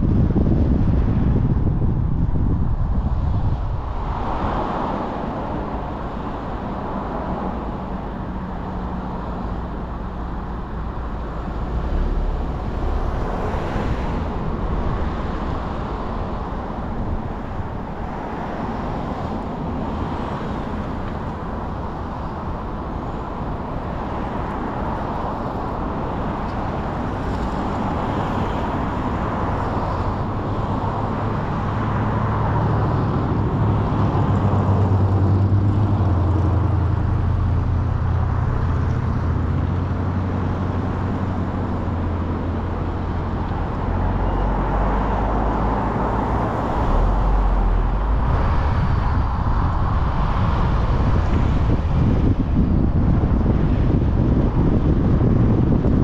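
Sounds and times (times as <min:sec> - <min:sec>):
car road and engine noise: 0:00.0 - 0:56.0.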